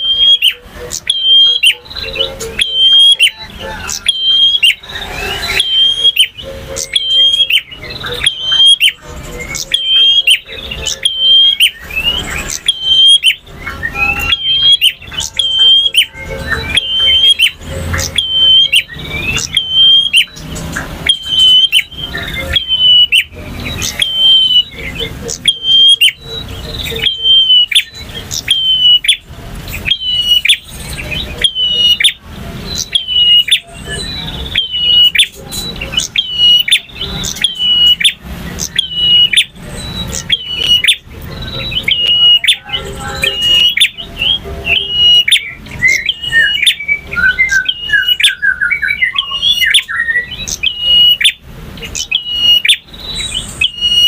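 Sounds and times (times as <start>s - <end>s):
bird sharp high chirping: 0.0s - 54.0s.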